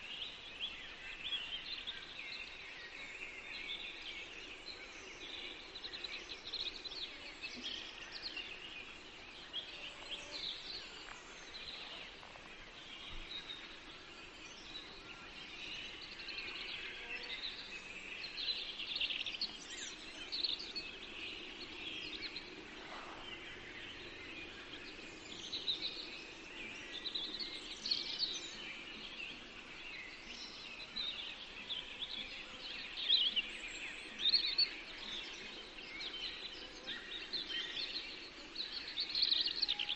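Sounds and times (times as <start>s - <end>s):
steady faint hiss: 0.0s - 39.4s
songbirds chirping and trilling: 0.0s - 39.9s.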